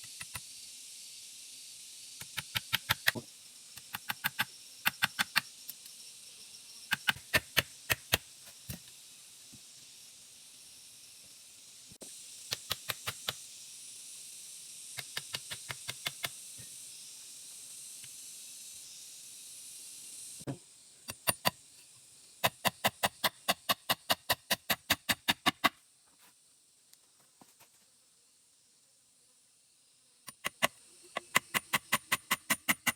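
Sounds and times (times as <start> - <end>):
steady high hiss: 0.0 - 32.9.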